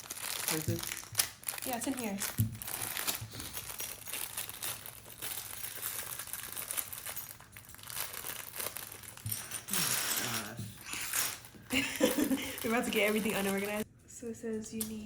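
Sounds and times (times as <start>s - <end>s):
plastic bags crinkling: 0.0s - 13.8s.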